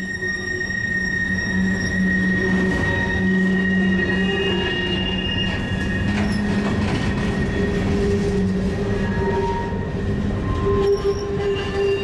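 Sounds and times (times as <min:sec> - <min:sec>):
high-pitched wheel squeal: 0:00.0 - 0:12.0
train wheels rumbling on rails: 0:00.0 - 0:12.0.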